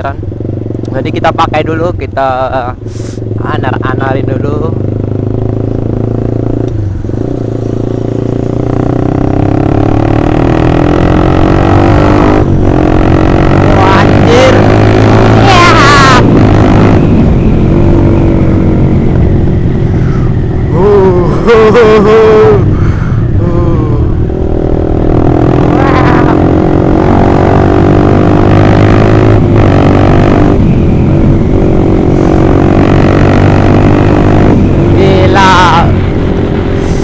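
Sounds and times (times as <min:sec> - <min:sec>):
motorcycle engine revving: 0:00.0 - 0:02.0, 0:02.8 - 0:37.0.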